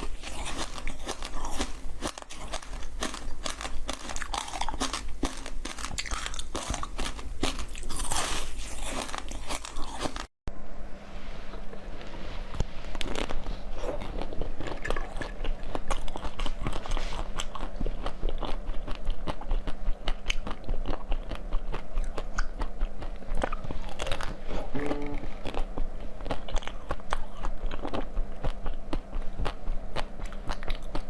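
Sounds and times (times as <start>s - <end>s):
crunchy bites and chewing: 0.0s - 10.3s, 12.9s - 31.0s.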